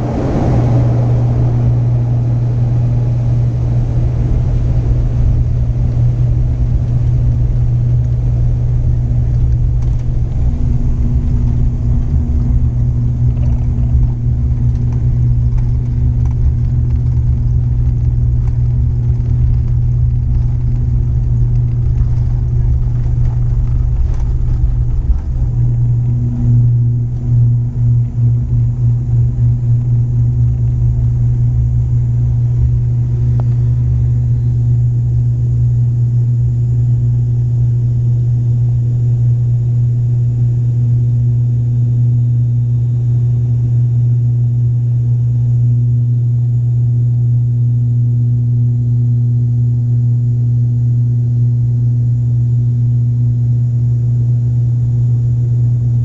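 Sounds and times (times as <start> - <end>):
airliner engines droning in cabin: 0.0 - 56.0.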